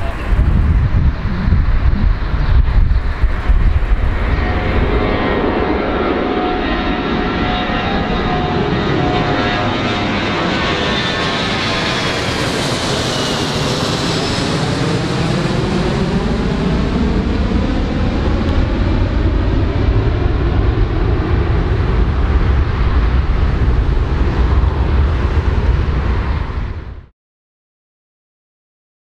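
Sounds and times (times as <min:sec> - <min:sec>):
deep rumble: 0:00.0 - 0:27.1
jet airliner roar: 0:00.0 - 0:27.1
jet engine whine: 0:00.0 - 0:27.1.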